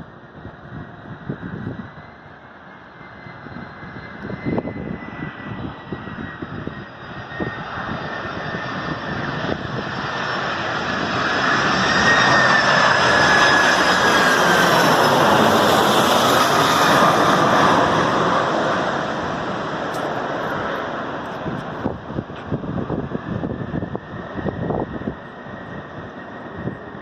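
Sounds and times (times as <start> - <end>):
jet engines passing low: 0.0 - 27.0.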